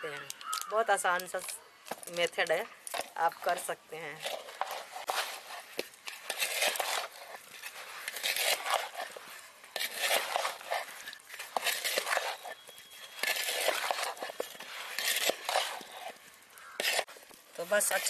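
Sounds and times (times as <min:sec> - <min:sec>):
wooden spoon scraping metal bowl: 0:00.0 - 0:18.0.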